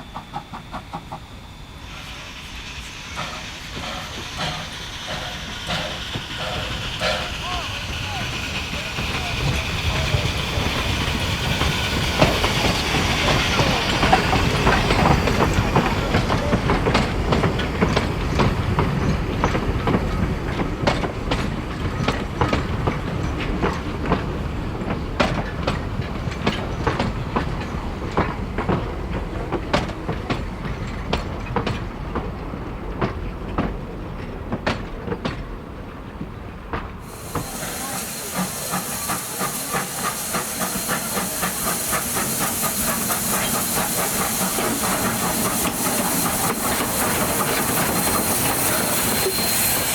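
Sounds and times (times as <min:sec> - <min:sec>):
train wheels clacking over rail joints: 0:03.0 - 0:49.9.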